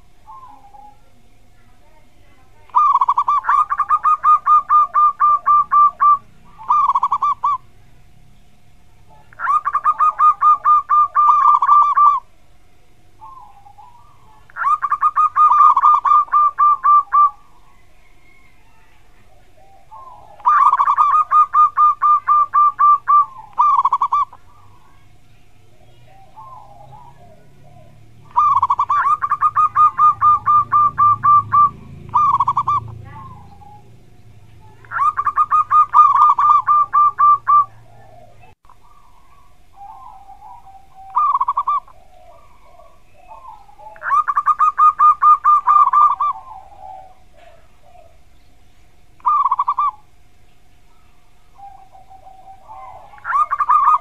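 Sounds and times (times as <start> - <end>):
dove cooing: 0.0 - 1.2, 2.4 - 8.1, 9.0 - 12.4, 13.1 - 54.0
faint steady hum: 0.0 - 54.0.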